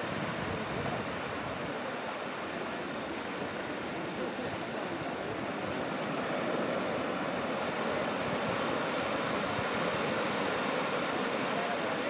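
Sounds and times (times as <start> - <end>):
surf breaking on a beach: 0.0 - 12.0.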